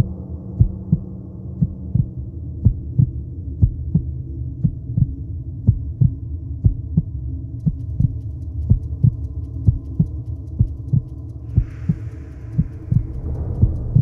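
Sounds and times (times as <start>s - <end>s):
heartbeat thumps: 0.0s - 14.0s
low drone: 0.0s - 14.0s.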